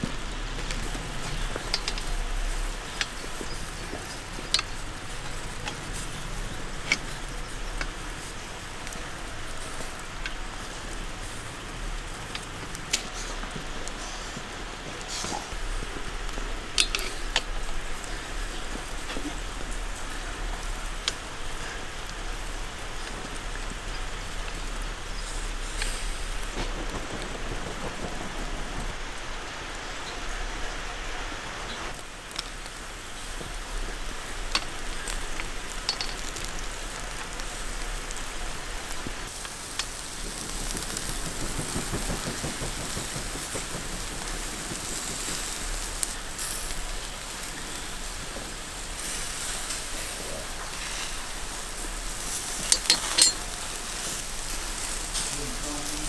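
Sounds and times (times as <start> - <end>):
meat sizzling over charcoal: 0.0 - 56.0.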